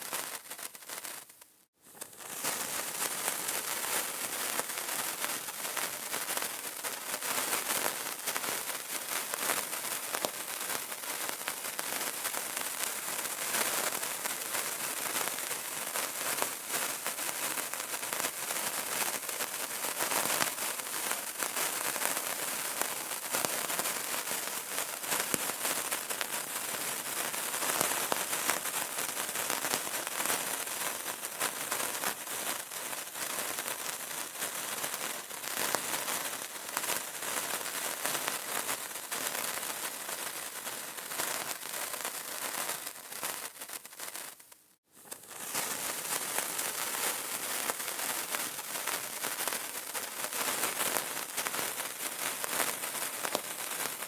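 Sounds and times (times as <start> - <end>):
candle crackling: 0.0 - 30.0, 34.2 - 54.0.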